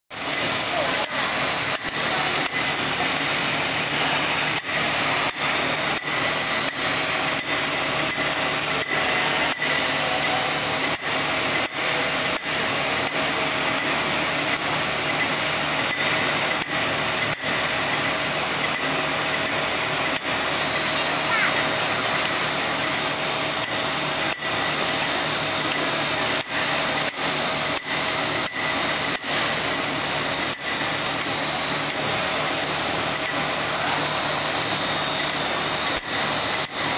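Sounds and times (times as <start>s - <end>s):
machine running with high whine: 0.1s - 36.9s
sharp mechanical ticks: 3.9s - 33.6s.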